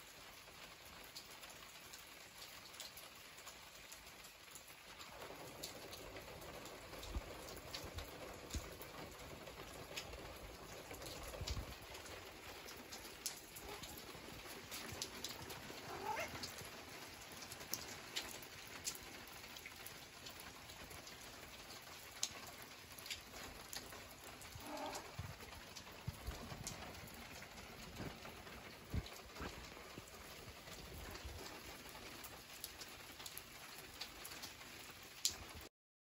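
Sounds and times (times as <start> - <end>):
rain falling on paving and roof: 0.0 - 35.7.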